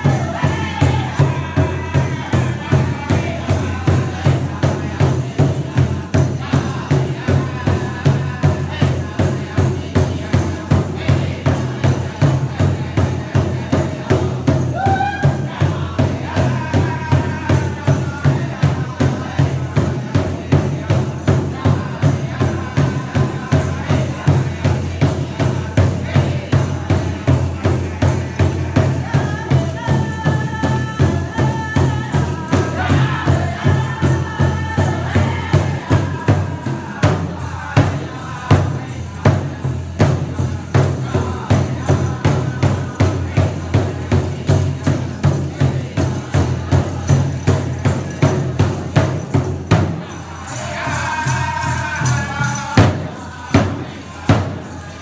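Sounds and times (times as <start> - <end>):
high-pitched group singing: 0.0 - 55.0
large drum steady beat: 0.0 - 55.0.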